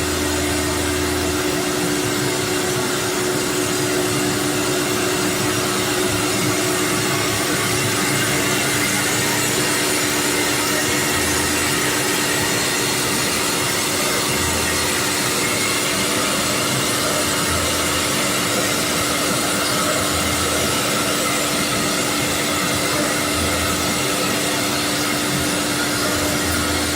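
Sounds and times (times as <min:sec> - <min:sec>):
cnc router spindle whine: 0:00.0 - 0:26.9.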